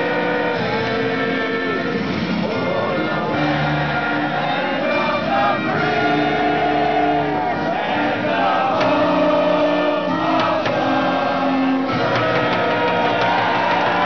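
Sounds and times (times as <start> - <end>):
music over public address: 0.0 - 14.0
stadium crowd singing an anthem: 0.0 - 14.0.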